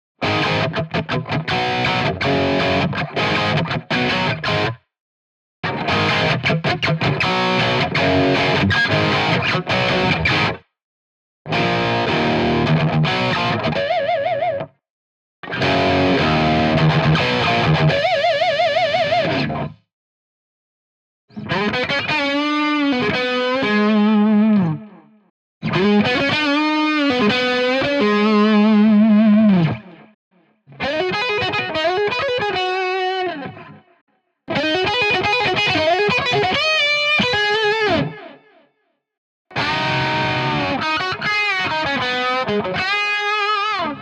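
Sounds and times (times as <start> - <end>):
distorted electric guitar: 0.2 - 4.8, 5.6 - 10.6, 11.5 - 14.7, 15.4 - 19.8, 21.3 - 25.0, 25.6 - 30.1, 30.7 - 33.8, 34.5 - 38.4, 39.5 - 44.0.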